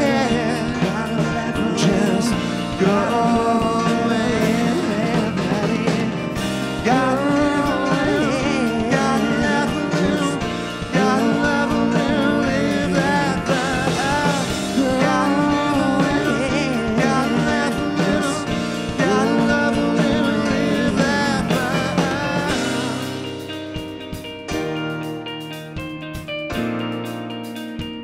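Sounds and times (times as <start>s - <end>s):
person singing lead vocal: 0.0s - 23.4s
rock band playing: 0.0s - 28.0s.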